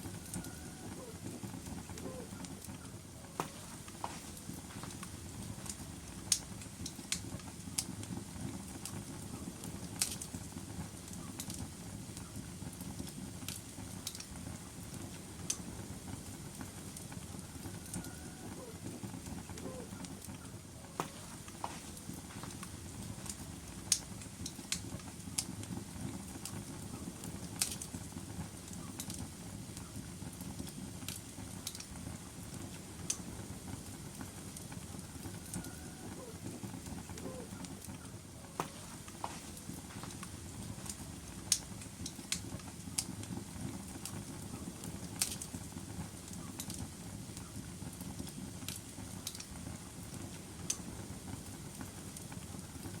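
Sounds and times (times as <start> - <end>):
fire crackling and popping: 0.0 - 53.0
flame rushing: 3.4 - 20.4, 21.0 - 53.0.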